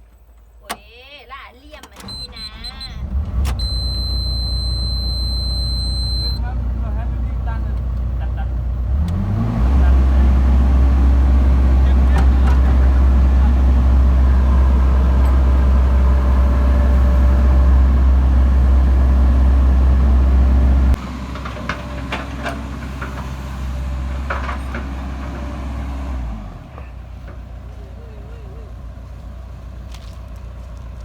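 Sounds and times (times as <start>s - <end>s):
diesel engine running: 2.0s - 31.0s.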